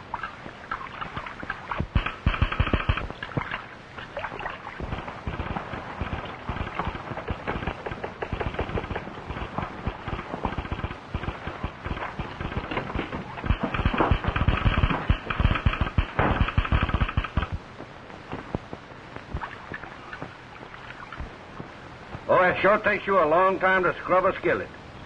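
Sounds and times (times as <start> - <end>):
horse hooves on hard ground: 1.0 - 22.3.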